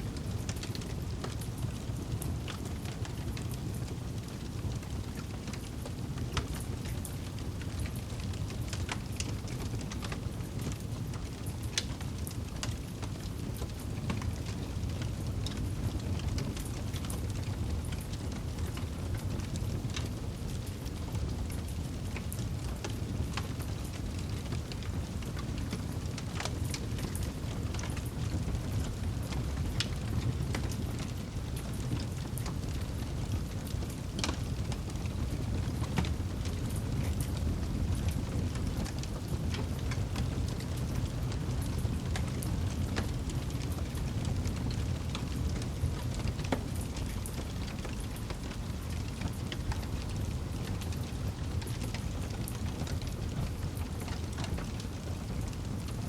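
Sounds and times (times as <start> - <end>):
wood crackling and popping: 0.1 - 56.0
campfire low rush: 0.2 - 56.0.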